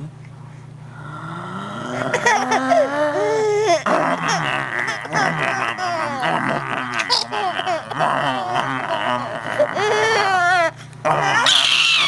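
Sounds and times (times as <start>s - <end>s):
baby laughing: 2.1s - 12.0s.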